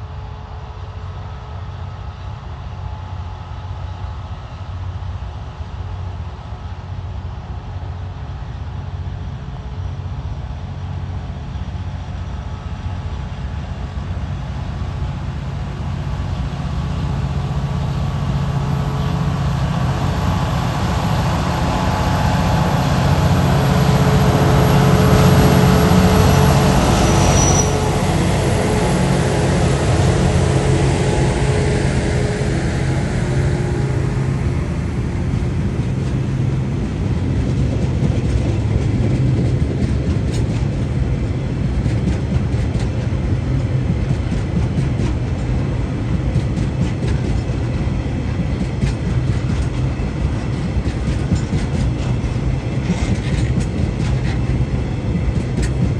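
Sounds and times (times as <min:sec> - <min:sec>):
diesel locomotive engines droning: 0:00.0 - 0:55.9.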